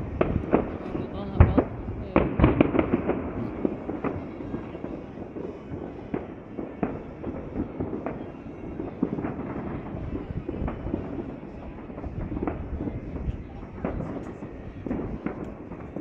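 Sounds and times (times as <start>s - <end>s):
fireworks bangs: 0.0s - 16.0s
rumble of explosions: 0.0s - 16.0s.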